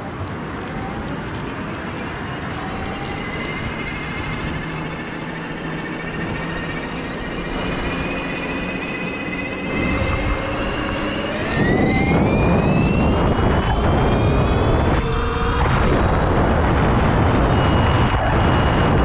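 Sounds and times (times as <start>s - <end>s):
rushing noise: 0.0s - 19.0s
electric bike motor whining: 2.0s - 19.0s.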